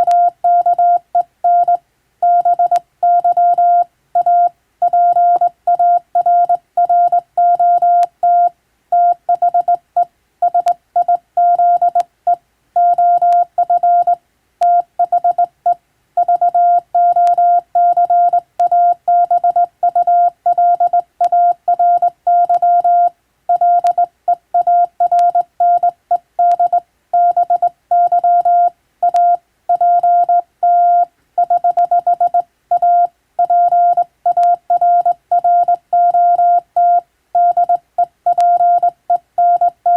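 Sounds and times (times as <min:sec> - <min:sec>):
morse code beeps: 0:00.0 - 0:15.5, 0:16.2 - 0:39.9.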